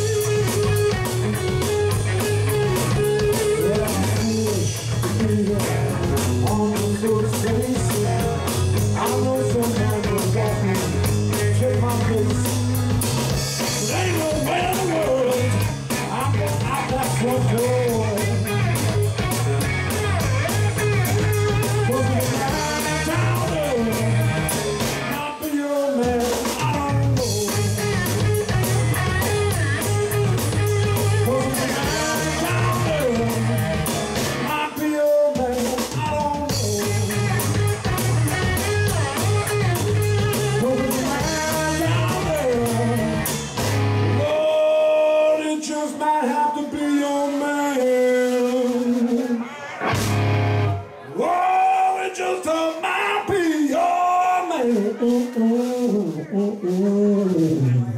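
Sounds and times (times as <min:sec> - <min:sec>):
person singing: 0:00.0 - 0:13.0, 0:13.6 - 0:43.6, 0:44.2 - 0:49.8, 0:50.9 - 0:57.9
blues-rock band playing: 0:00.0 - 0:57.9.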